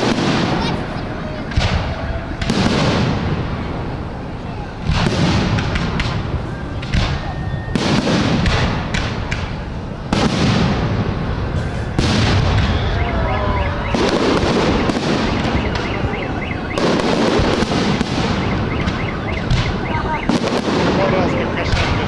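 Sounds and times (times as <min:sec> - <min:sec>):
firework shells booming: 0:00.0 - 0:22.0.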